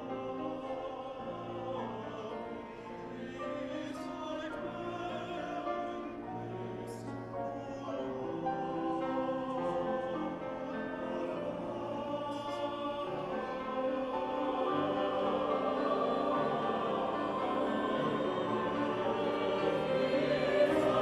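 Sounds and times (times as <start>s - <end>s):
classical choir singing: 0.0s - 21.0s.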